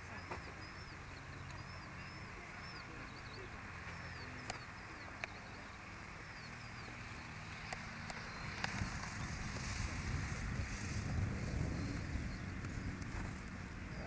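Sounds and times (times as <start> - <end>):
small bird singing: 0.0 - 14.0.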